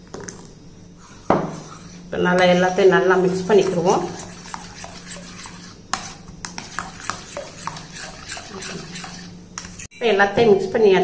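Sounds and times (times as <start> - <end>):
metal spoon stirring porridge: 1.0 - 9.9.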